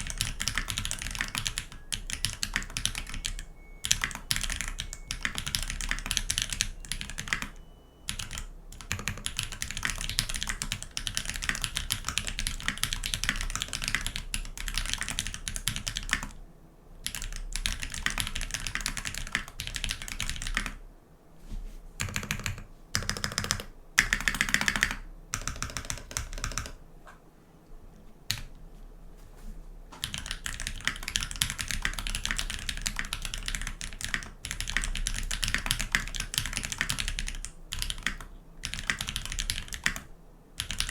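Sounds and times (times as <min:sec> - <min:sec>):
mechanical keyboard typing: 0:00.0 - 0:16.4, 0:17.0 - 0:20.8, 0:22.0 - 0:26.8, 0:30.0 - 0:40.9.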